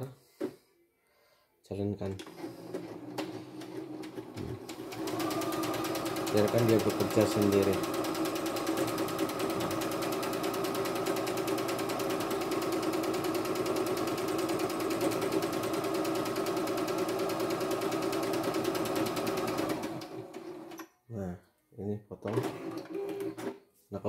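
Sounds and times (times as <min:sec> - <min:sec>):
sewing machine stitching: 0:02.2 - 0:20.8, 0:22.3 - 0:23.6.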